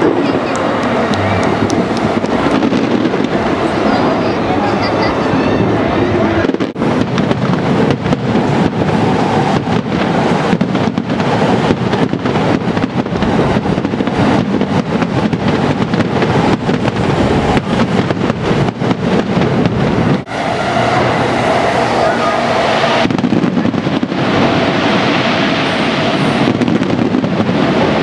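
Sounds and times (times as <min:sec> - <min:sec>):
loud steady rumble: 0:00.0 - 0:28.0.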